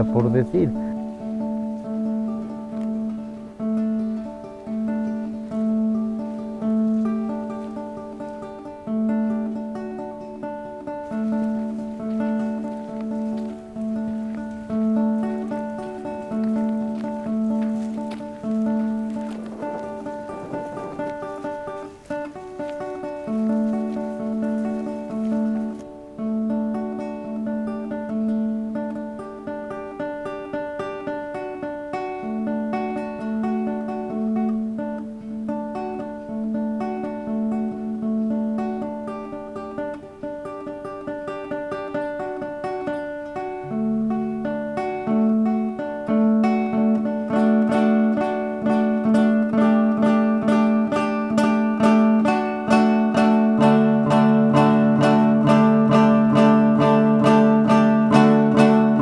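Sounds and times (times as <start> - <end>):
plucked-string background music: 0.0 - 59.0.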